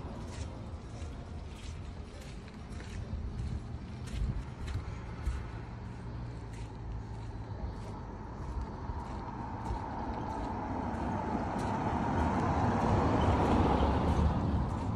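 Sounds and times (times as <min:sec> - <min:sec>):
vehicle engine running: 0:00.0 - 0:14.9.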